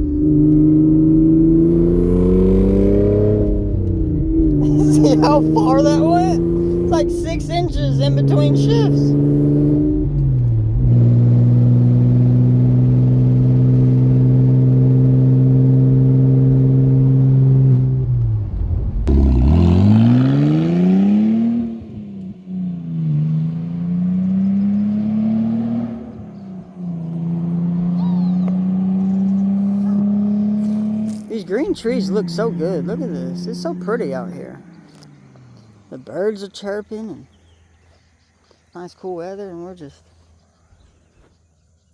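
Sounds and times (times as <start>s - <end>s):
car engine revving through gears: 0.0s - 36.2s.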